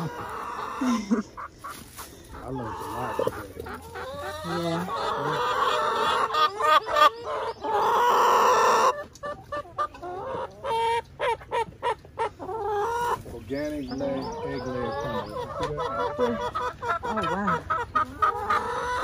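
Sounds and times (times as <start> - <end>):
chickens clucking and squawking: 0.0 - 19.0.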